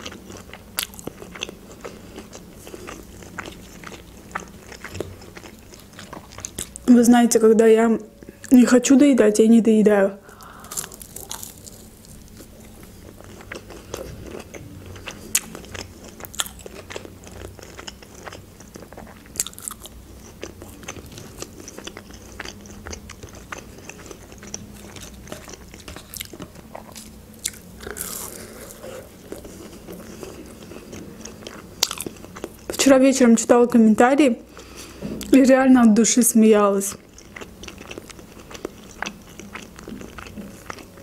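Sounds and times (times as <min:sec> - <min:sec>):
crunchy chewing and biting: 0:00.0 - 0:06.9, 0:10.6 - 0:32.8, 0:36.9 - 0:41.0.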